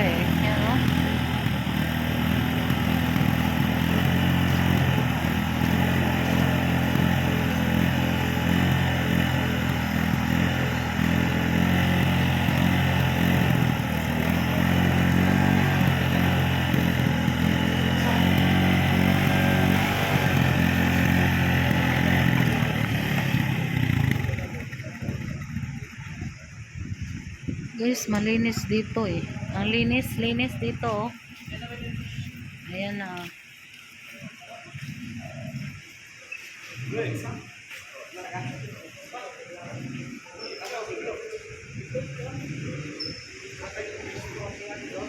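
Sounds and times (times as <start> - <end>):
motorcycle engine idling: 0.0 - 37.7.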